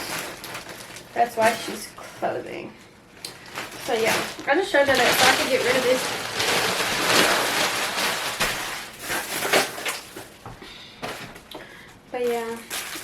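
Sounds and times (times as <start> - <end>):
packaging crinkling: 0.0 - 2.2, 3.1 - 13.0.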